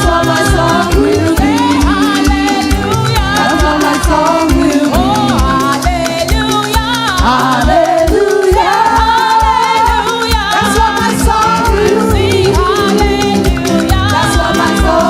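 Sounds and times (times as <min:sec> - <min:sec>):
gospel choir singing: 0:00.0 - 0:15.0
live band playing: 0:00.0 - 0:15.0
steady drum beat: 0:00.0 - 0:15.0.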